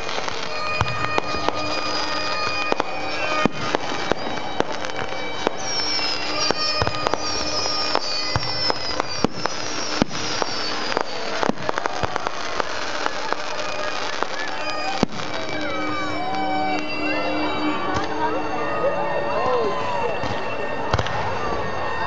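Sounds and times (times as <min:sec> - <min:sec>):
firework bangs and crackling: 0:00.0 - 0:22.0
firework whistles: 0:00.0 - 0:22.0.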